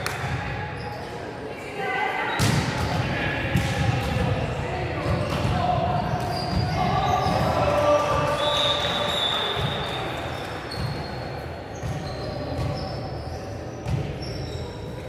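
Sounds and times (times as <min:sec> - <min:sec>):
trainers squeaking on court floor: 0:00.1 - 0:01.3, 0:03.6 - 0:15.0.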